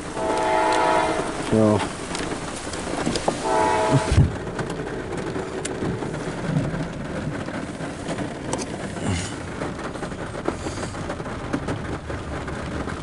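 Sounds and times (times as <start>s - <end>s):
heavy rain on vehicle window: 0.0s - 13.0s.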